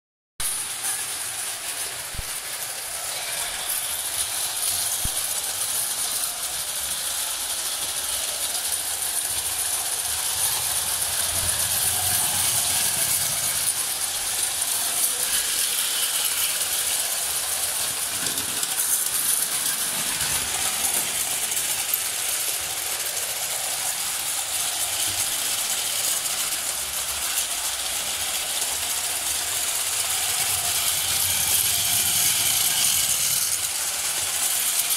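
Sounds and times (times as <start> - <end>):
steam hissing: 0.4 - 34.9
toy train running on rails: 0.4 - 34.9.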